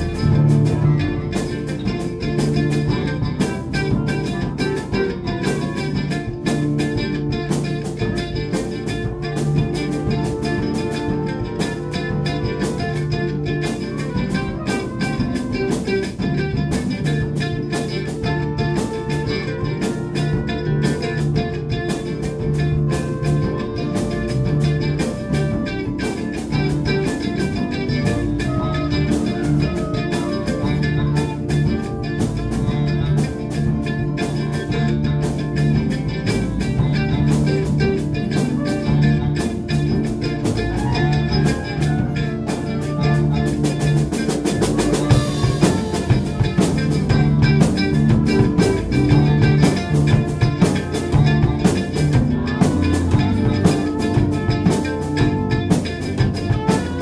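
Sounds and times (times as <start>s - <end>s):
cymbals: 0.0s - 57.0s
drum kit beat: 0.0s - 57.0s
live band playing: 0.0s - 57.0s.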